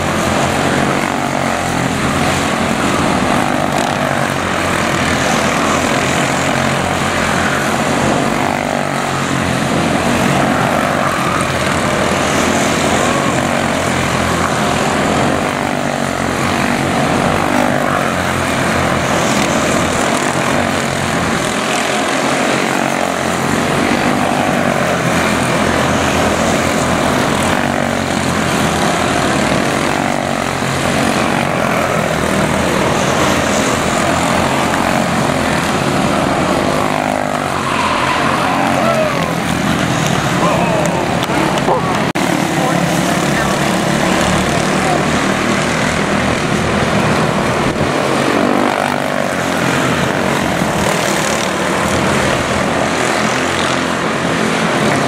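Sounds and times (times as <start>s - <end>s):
race car engines buzzing drone: 0.0s - 55.0s.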